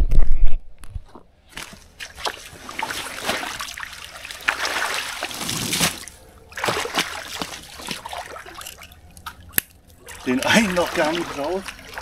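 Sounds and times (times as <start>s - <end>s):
water splashing and trickling: 1.5s - 12.0s.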